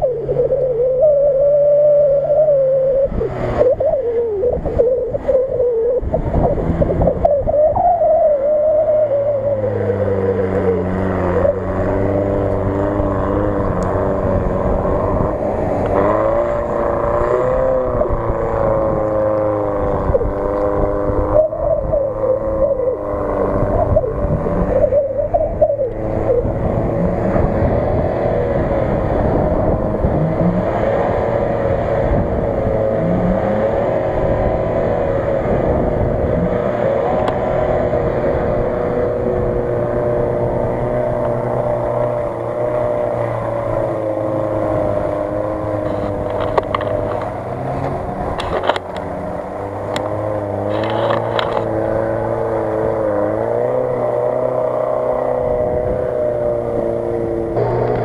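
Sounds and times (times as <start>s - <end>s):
off-road engines revving: 0.0s - 58.0s.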